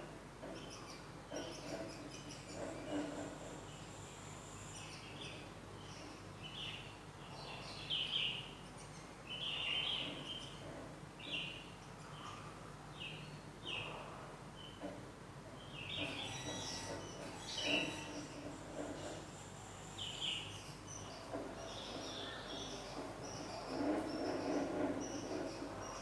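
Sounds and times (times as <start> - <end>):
birds chirping: 0.4 - 26.0.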